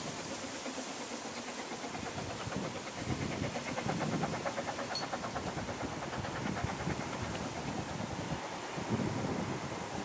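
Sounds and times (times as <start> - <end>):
hiss of wind and steam: 0.0 - 10.0
steam locomotive chuffing: 0.0 - 10.0.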